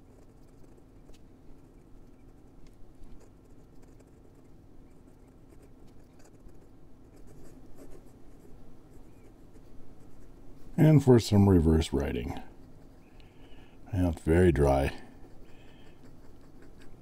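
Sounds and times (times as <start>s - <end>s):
pen nib scratching on paper: 0.0s - 10.4s, 12.2s - 17.0s.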